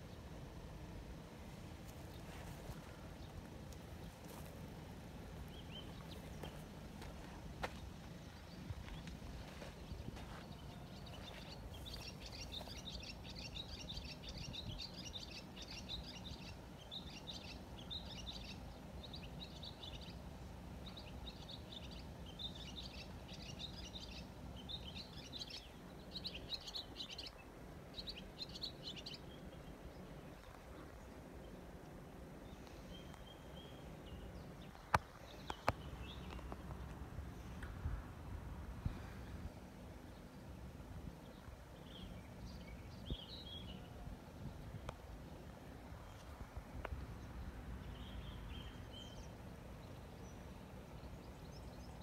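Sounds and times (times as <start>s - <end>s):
songbird chirping: 0.0s - 37.9s, 38.8s - 52.0s
low background rumble: 0.0s - 52.0s.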